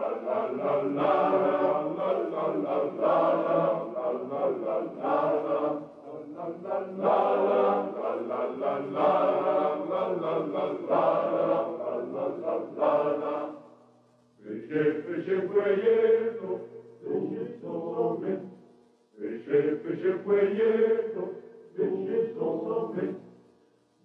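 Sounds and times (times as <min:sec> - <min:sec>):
choir singing: 0:00.0 - 0:13.7, 0:14.4 - 0:18.6, 0:19.2 - 0:23.3.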